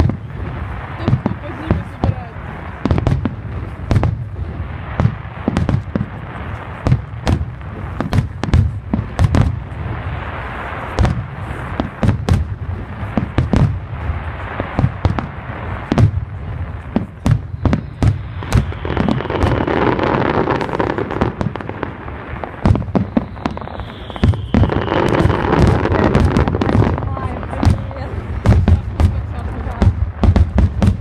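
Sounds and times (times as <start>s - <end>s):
fireworks bangs and booms: 0.0s - 31.0s.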